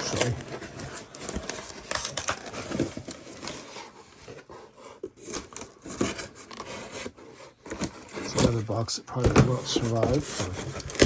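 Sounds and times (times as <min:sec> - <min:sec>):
cardboard crinkling and tearing: 0:00.0 - 0:11.0.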